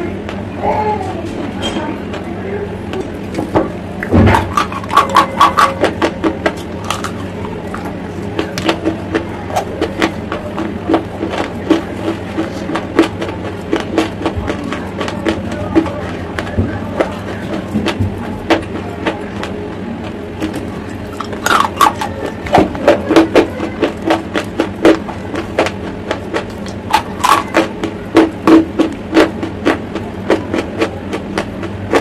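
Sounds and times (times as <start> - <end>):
chewing crunchy chalk: 4.0 - 32.0.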